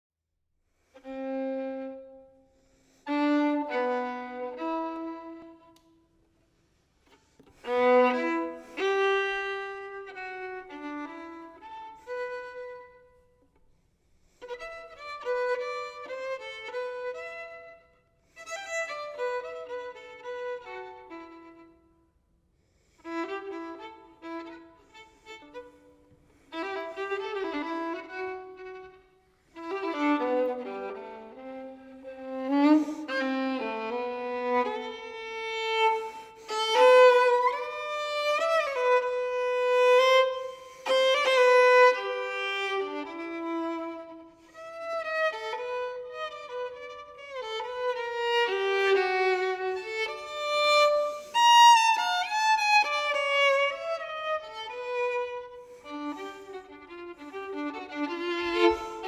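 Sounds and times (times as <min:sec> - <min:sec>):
solo violin melody: 0:00.8 - 0:59.0.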